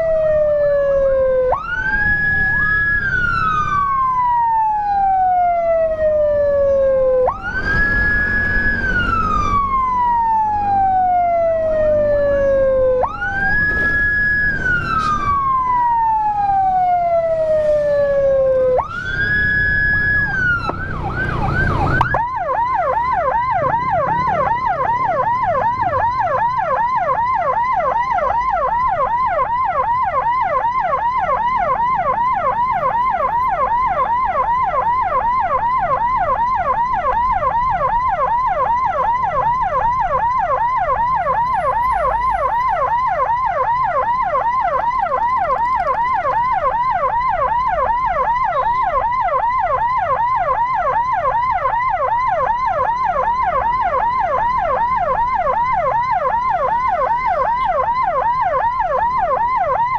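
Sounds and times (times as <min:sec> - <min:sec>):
electronic siren yelping: 0:00.0 - 0:59.9.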